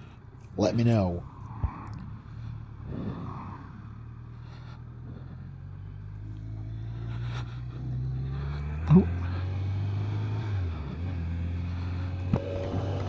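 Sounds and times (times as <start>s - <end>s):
motorcycle engine running: 2.0s - 13.0s.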